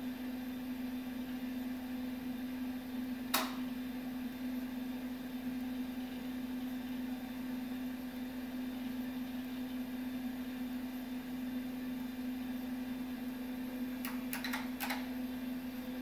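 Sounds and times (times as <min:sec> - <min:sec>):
computer fan noise: 0:00.0 - 0:16.0.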